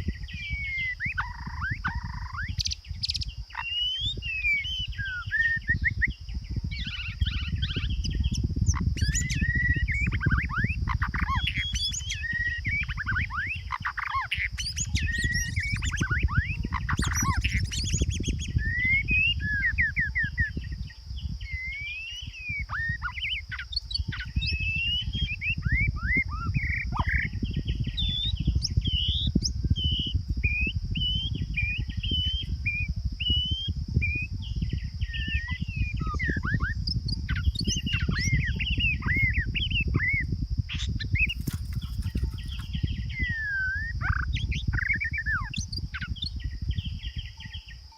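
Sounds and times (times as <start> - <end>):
songbirds chirping and whistling: 0.0 - 47.9.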